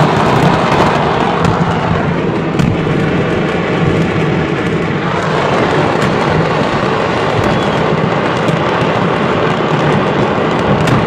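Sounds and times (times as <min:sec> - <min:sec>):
fireworks rumbling and crackling: 0:00.0 - 0:11.0
sharp firework pops: 0:00.0 - 0:11.0.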